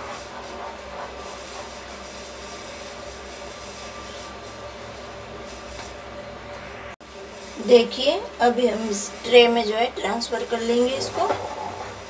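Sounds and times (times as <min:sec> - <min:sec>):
wooden spatula scraping a pan: 0:00.0 - 0:06.0, 0:07.3 - 0:12.0.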